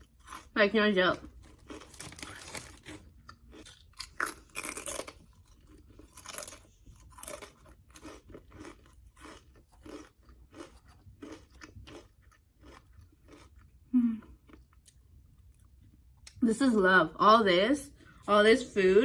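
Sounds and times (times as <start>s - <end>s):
person crunching and chewing: 0.0s - 16.4s.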